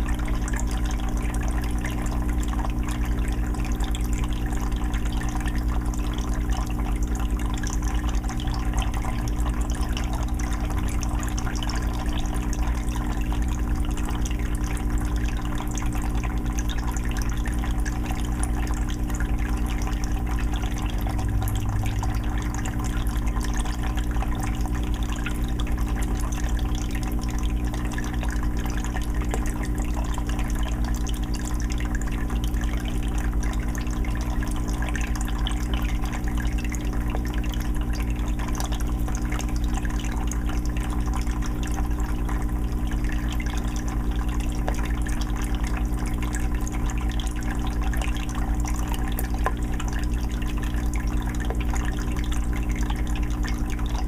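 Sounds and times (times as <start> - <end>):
steady low hum: 0.0 - 54.0
water trickling and bubbling: 0.0 - 54.0.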